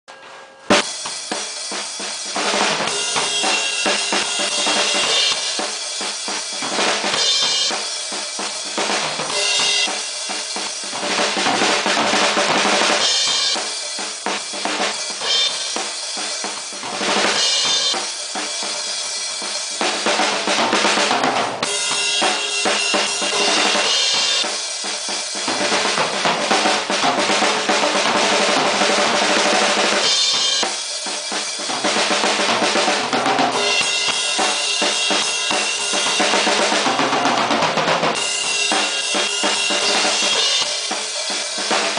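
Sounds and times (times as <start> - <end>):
cymbals washing: 0.1 - 20.6, 21.6 - 25.8, 29.4 - 37.0, 38.1 - 41.9
drum kit playing: 0.1 - 41.9.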